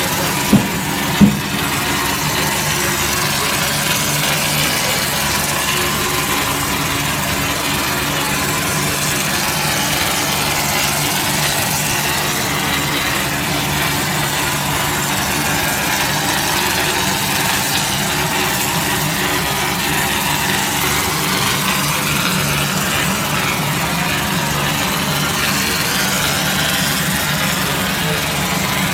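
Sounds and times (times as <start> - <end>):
plastering machine motor hum: 0.0 - 28.9.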